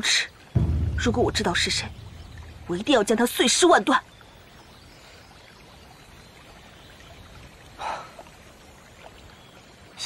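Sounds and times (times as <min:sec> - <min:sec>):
stream flowing: 0:00.0 - 0:10.0.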